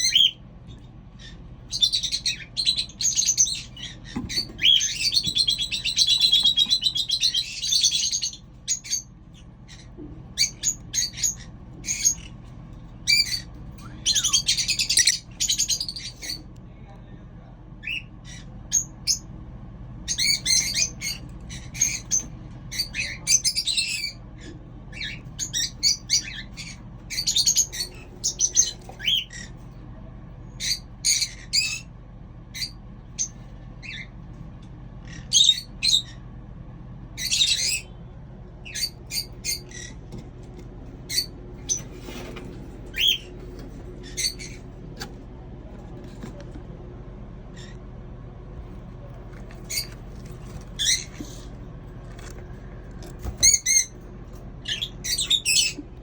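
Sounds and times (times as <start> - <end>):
parrots chirping and squawking: 0.0 - 16.5, 17.8 - 19.3, 20.1 - 29.7, 30.5 - 31.9, 32.5 - 34.2, 35.0 - 36.2, 37.2 - 37.9, 38.6 - 45.2, 47.5 - 47.8, 48.7 - 56.0
steady low hum: 0.0 - 56.0.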